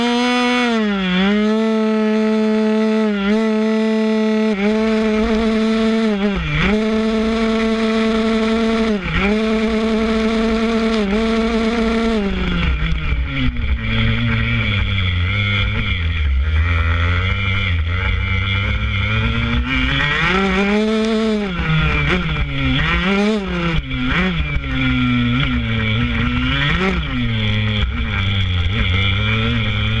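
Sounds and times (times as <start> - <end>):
two-stroke motorbike engine revving: 0.0 - 30.0.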